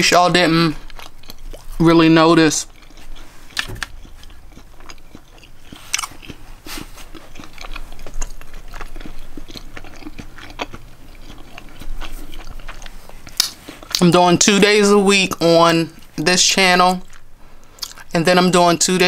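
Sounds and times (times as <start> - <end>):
person chewing: 0.3 - 14.5, 15.2 - 18.8.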